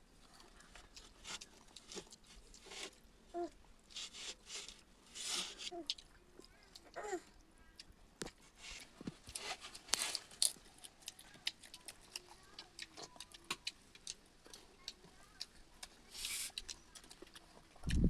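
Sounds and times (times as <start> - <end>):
wet chewing with mouth clicks: 0.1 - 18.0.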